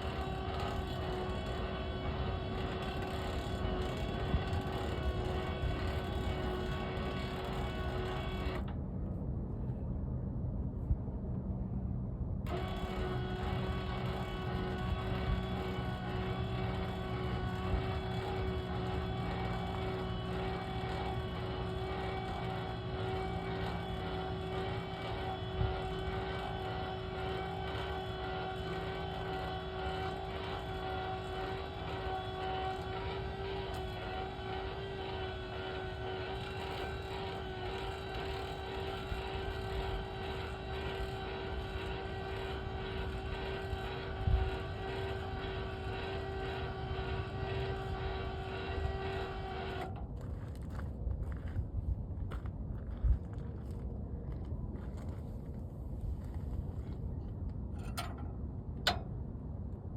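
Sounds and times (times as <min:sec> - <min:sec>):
vehicle engine droning: 0:00.0 - 0:08.8, 0:12.5 - 0:51.6, 0:52.3 - 0:59.4
constant whine: 0:00.0 - 0:59.9.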